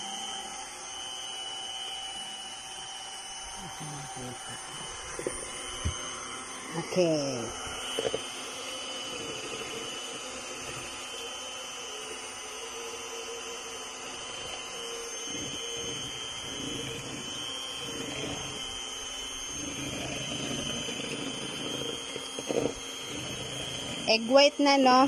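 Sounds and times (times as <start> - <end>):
electric hand mixer whining: 0.0 - 25.0.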